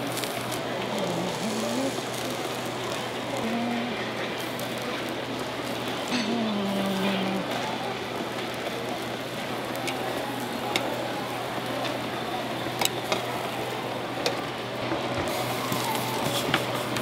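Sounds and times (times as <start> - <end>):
batter sizzling on a griddle: 0.0 - 17.0
steady background hum: 0.0 - 17.0.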